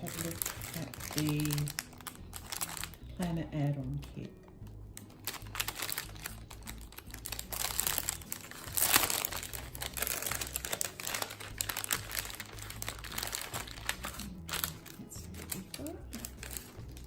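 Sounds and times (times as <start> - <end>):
packaging crinkling: 0.0 - 3.2, 4.9 - 17.0.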